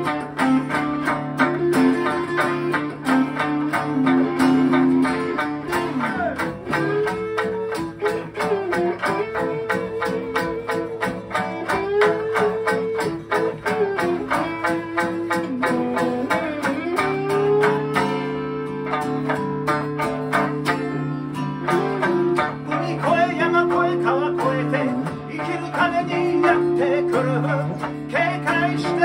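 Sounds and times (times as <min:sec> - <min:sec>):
acoustic guitars strumming: 0:00.0 - 0:29.0
sliding held melody line: 0:00.0 - 0:29.0.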